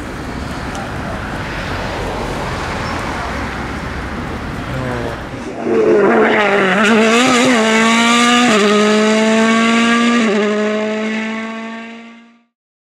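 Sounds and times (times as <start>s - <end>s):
racing car engine accelerating: 0.7s - 12.5s.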